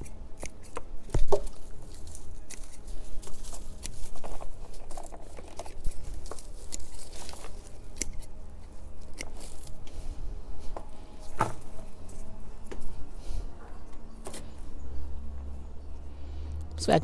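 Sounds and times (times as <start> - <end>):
rustling and crinkling handling noise: 0.0 - 15.7.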